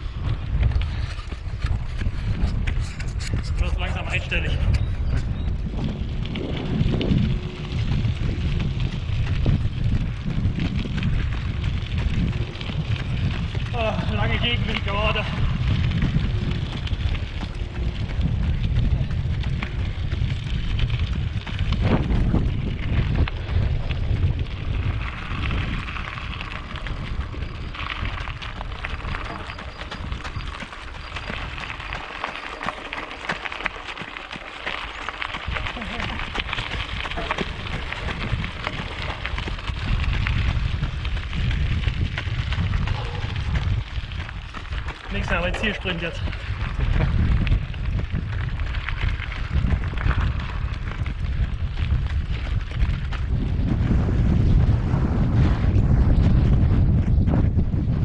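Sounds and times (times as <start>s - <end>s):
running steps on gravel: 0.0s - 58.0s
wind buffeting microphone: 0.0s - 58.0s.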